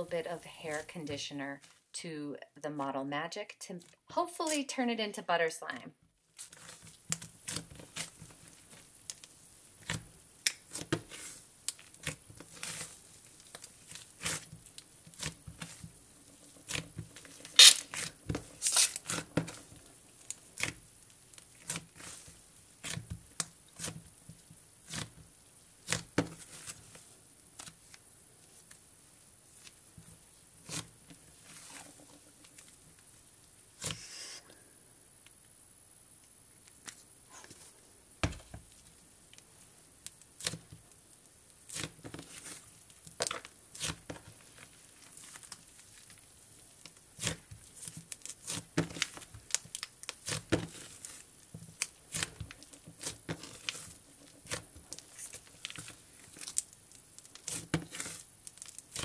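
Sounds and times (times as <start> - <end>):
slime crackling and popping: 6.3 - 34.2, 38.3 - 59.0.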